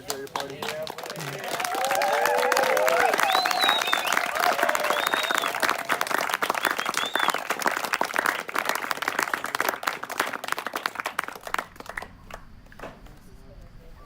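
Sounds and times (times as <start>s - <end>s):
people applauding: 0.0s - 13.2s.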